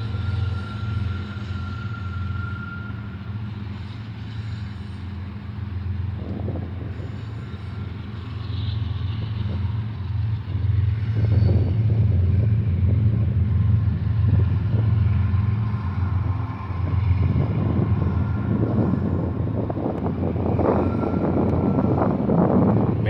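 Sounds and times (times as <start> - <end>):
freight train wheels rumbling: 0.0 - 23.0
train cars clanking and rattling: 0.0 - 23.0.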